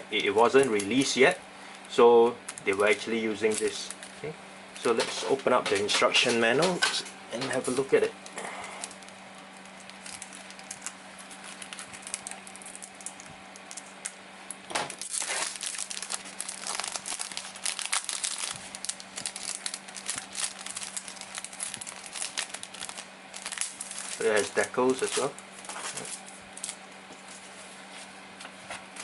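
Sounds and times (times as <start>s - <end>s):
packaging crinkling and rustling: 2.4s - 6.0s, 7.4s - 27.5s.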